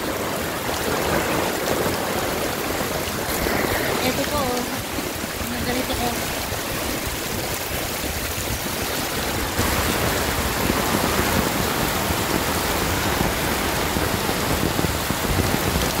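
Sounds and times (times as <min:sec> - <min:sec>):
heavy rain pouring: 0:00.0 - 0:16.0
rushing floodwater: 0:00.0 - 0:16.0.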